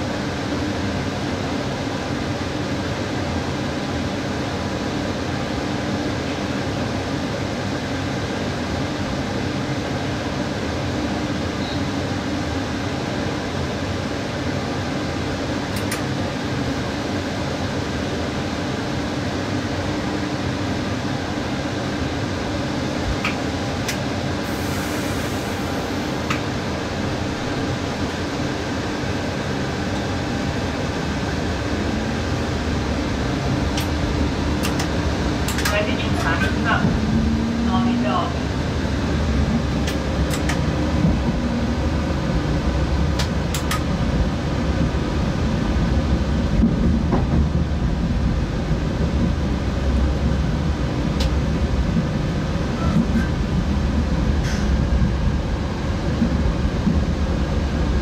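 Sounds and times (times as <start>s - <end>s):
train cab equipment hum: 0.0s - 58.0s.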